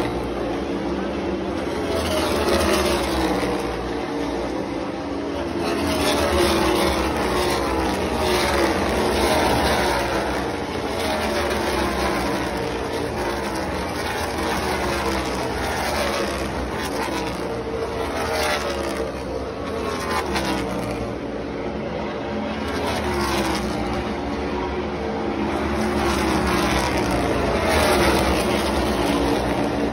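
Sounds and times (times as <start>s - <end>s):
race car engines passing by: 0.0s - 29.9s.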